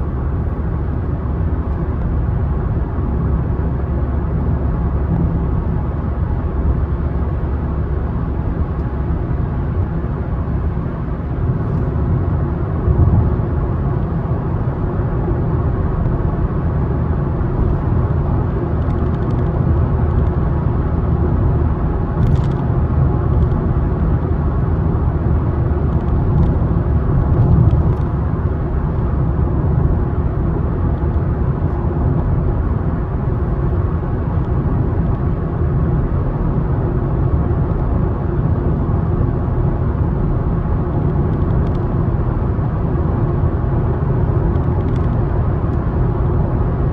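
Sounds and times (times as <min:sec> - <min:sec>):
car driving on road: 0:00.0 - 0:46.9.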